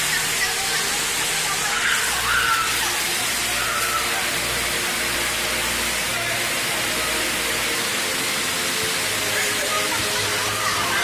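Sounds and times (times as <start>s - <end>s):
river rushing over rapids: 0.0s - 11.0s.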